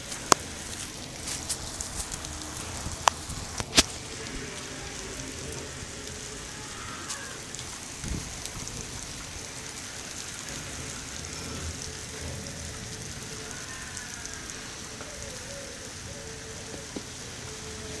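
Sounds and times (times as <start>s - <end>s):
raindrops striking close by: 0.0s - 18.0s
steady rain falling: 0.0s - 18.0s.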